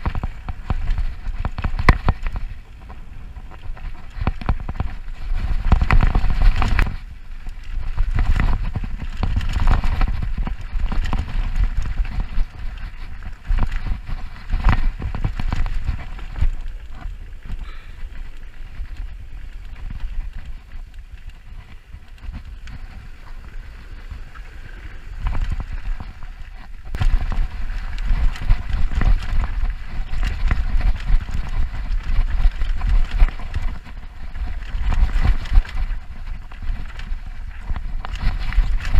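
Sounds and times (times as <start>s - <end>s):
bike rattling: 0.0s - 38.9s
tyre rumble over dirt and rocks: 0.0s - 38.9s.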